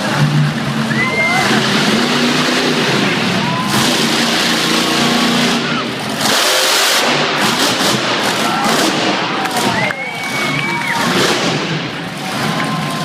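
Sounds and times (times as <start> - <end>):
car engine roaring: 0.0 - 13.0.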